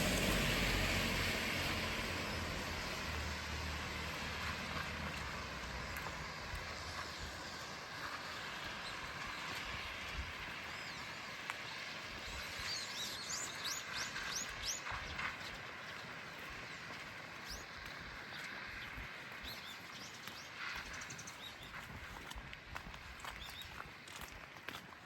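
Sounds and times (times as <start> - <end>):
steady rain: 0.0 - 22.3.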